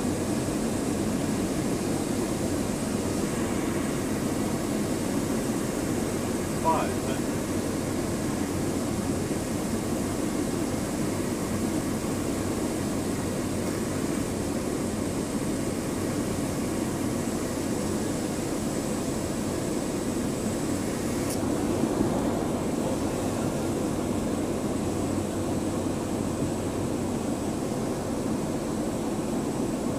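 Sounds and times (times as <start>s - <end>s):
turboprop engine droning: 0.0s - 29.9s.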